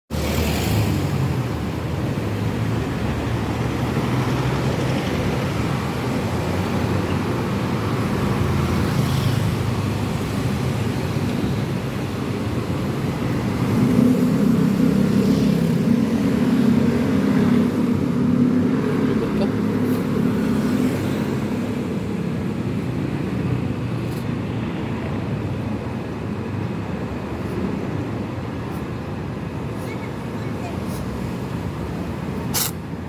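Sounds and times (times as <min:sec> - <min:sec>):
low rumble of traffic: 0:00.1 - 0:33.0.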